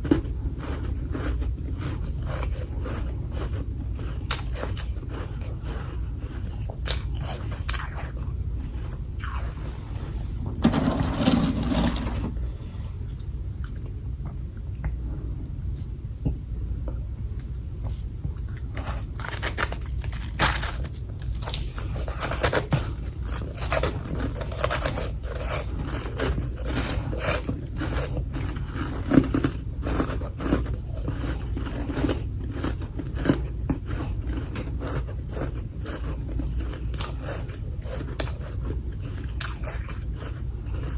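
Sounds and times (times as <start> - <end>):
crunching and chewing frost: 0.0 - 14.0, 17.4 - 40.9.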